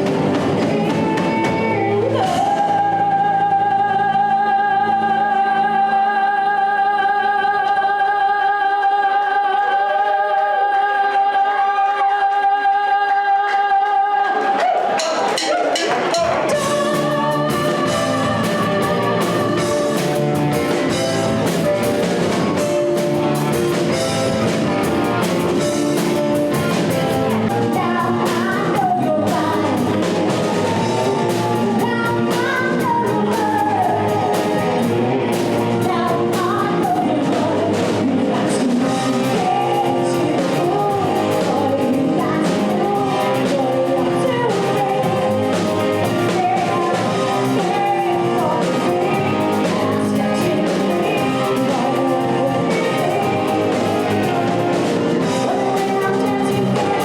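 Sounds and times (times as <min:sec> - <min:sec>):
live rock band playing: 0:00.0 - 0:06.2, 0:14.8 - 0:57.0
drums: 0:00.0 - 0:10.0, 0:10.9 - 0:57.0
person singing: 0:00.0 - 0:57.0.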